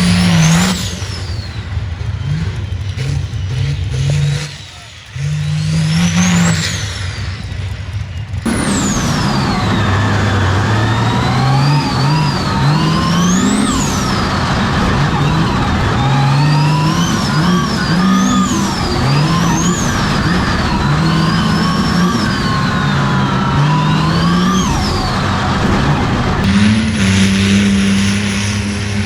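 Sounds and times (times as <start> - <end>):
truck engine revving with whine: 0.0 - 29.0.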